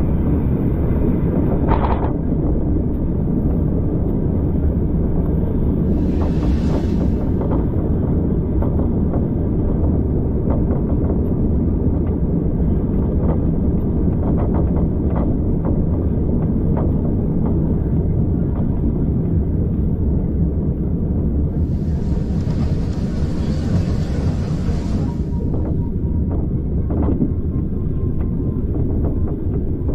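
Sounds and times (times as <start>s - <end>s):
train rumbling on track: 0.0s - 29.9s.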